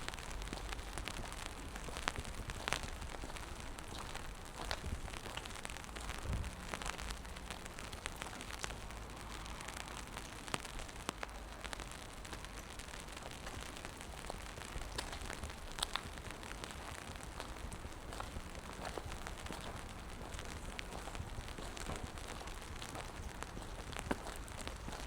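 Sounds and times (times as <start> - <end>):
rain on wet pavement: 0.0 - 25.0.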